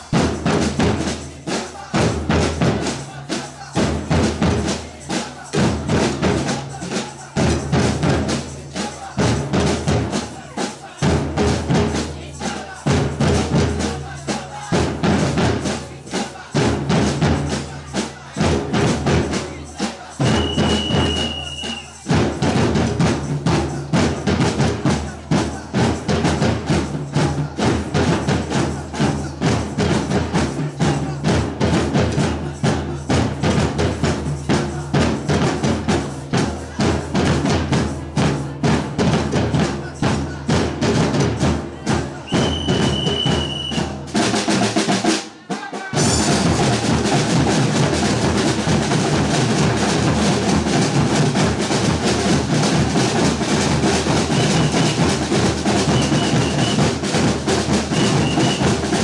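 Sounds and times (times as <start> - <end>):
bass and snare drums playing: 0.0 - 59.0.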